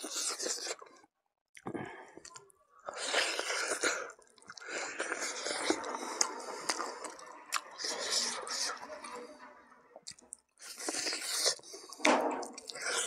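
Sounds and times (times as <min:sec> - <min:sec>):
wet chewing and smacking: 0:00.0 - 0:08.7, 0:10.0 - 0:13.0.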